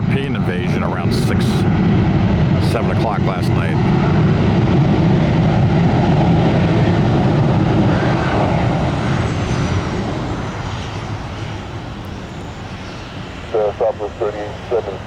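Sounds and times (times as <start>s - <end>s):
jet airliner engine rumble: 0.0s - 15.0s.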